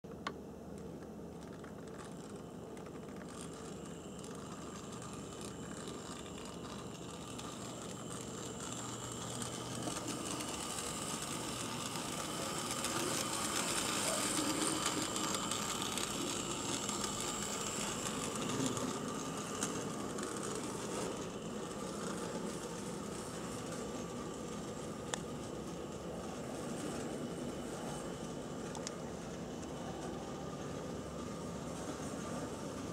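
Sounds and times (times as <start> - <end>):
model train motor whirring: 1.6 - 32.9.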